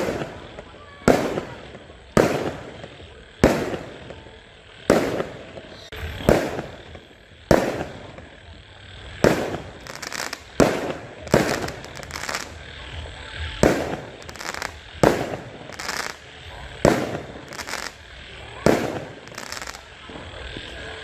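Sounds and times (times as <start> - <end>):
crackling firework bursts: 0.0 - 21.0
fireworks bangs with echoing rumble: 0.0 - 21.0.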